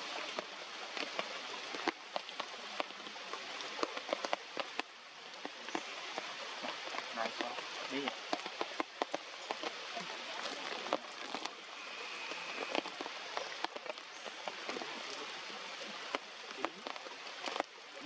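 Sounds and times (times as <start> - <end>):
raindrops ticking on surfaces: 0.0 - 18.0.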